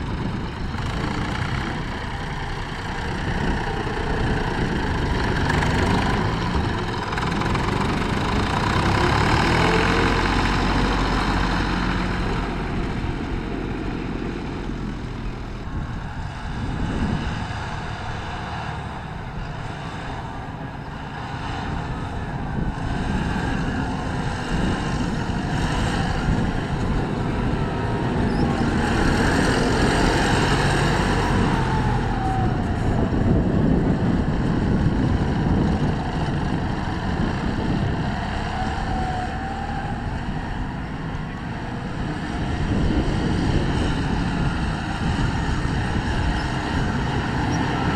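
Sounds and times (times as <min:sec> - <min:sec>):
tractor engine rumbling: 0:00.0 - 0:47.9.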